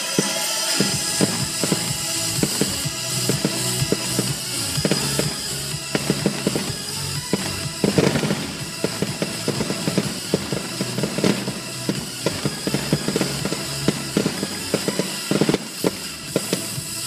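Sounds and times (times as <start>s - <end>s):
fireworks crackling pops: 0.0s - 17.0s
music on car stereo: 0.0s - 17.0s.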